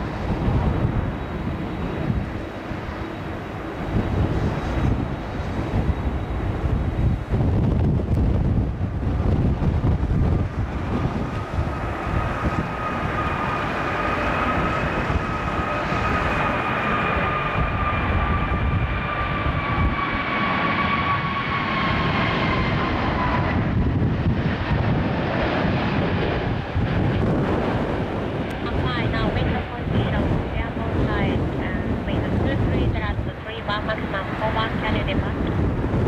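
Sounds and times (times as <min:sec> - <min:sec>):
jet engine whine: 0:00.0 - 0:36.0
wind buffeting microphone: 0:00.0 - 0:36.0.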